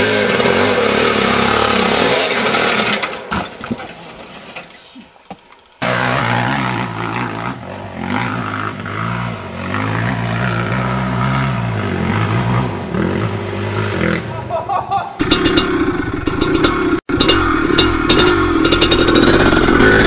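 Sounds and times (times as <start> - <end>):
dirt bike engine revving: 0.0 - 3.3, 5.8 - 20.0.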